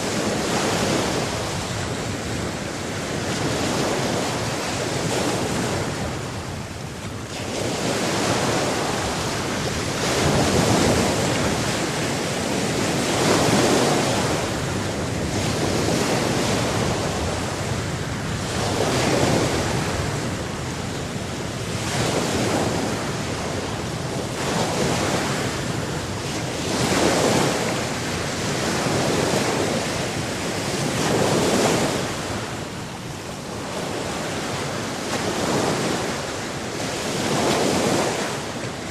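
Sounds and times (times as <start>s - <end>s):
sea waves washing in: 0.0s - 38.9s.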